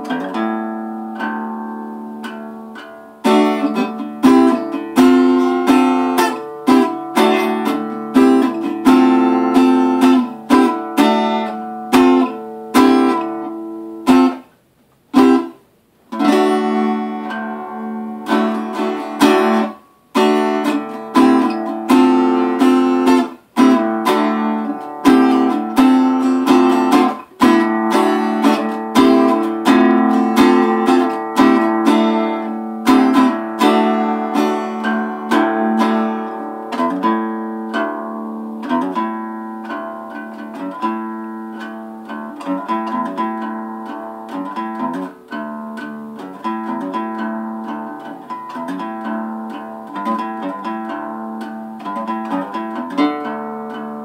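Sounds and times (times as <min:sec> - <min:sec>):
acoustic guitar chords strummed: 0:00.0 - 0:54.0.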